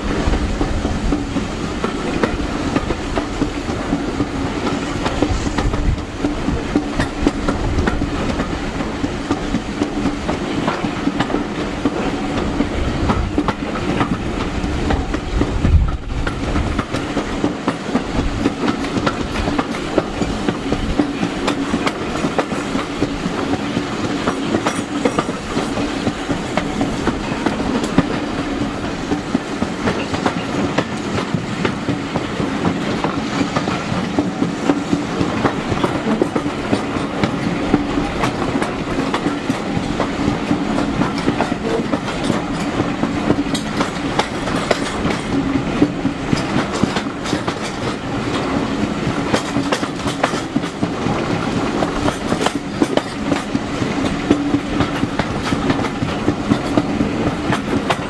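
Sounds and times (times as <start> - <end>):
train rumble: 0.0 - 58.0
wheels clicking over rail joints: 0.2 - 58.0.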